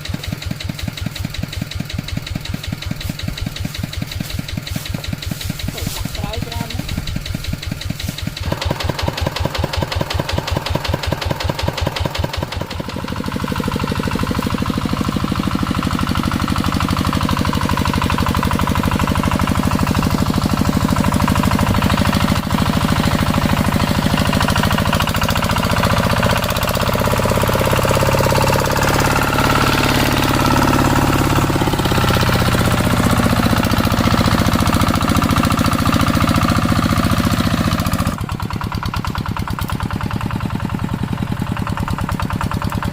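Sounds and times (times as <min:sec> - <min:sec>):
walking tractor engine running: 0:00.0 - 0:42.9.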